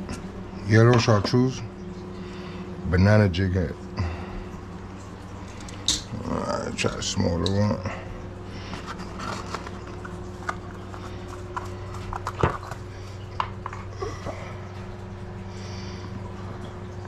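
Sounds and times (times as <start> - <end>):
steady electric hum: 0.0 - 17.0.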